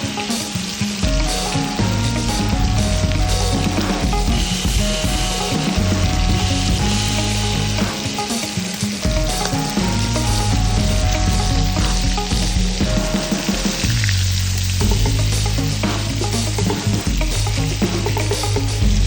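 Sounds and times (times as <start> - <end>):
music playing: 0.0 - 19.0
steady crackling hiss: 0.0 - 19.0.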